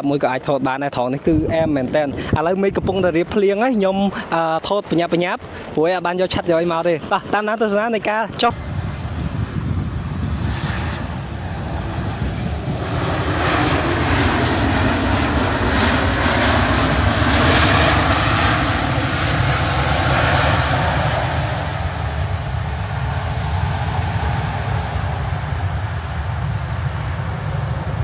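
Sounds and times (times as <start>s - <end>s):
airliner engines roaring: 0.0s - 28.0s.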